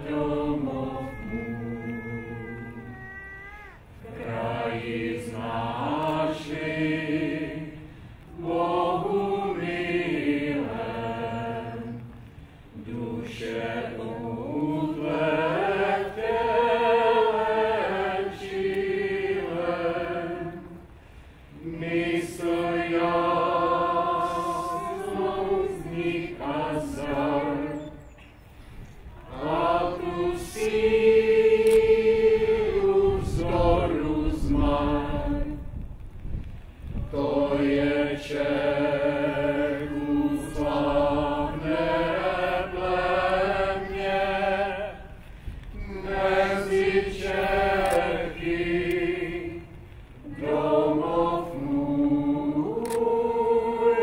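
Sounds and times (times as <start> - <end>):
group singing chant-like song: 0.0 - 2.9, 4.0 - 28.1, 29.1 - 35.8, 37.0 - 54.0.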